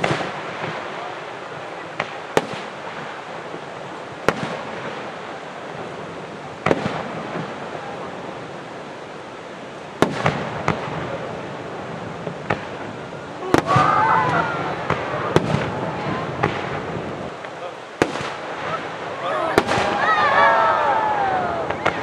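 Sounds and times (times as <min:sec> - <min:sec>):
fireworks bursting: 0:00.0 - 0:22.0
steady background hiss: 0:00.0 - 0:22.0.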